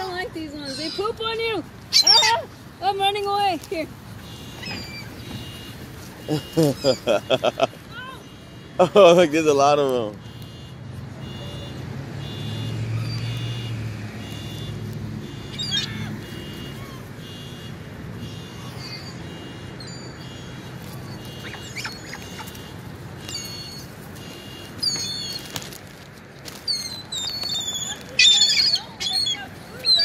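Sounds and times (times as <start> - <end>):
gulls calling: 0.0 - 9.5, 11.2 - 25.8, 26.5 - 30.0.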